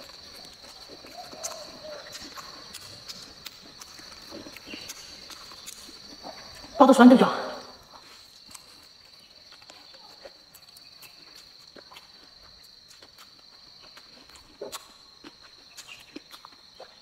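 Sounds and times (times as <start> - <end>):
wet chewing mouth clicks: 0.0 - 6.8, 7.9 - 17.0
high insect trill: 0.0 - 17.0.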